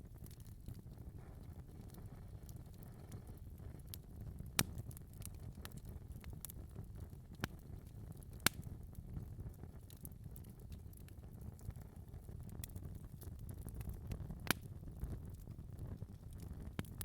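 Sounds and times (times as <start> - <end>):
wood fire crackling: 0.0 - 17.0
sharp pops from fire: 0.2 - 17.0.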